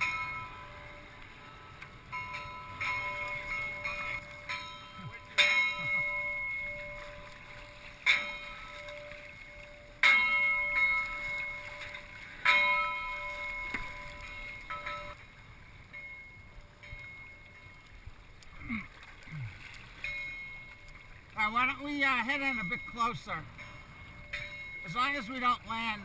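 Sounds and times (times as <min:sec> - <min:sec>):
bell ringing: 0:00.0 - 0:17.9, 0:20.0 - 0:26.0.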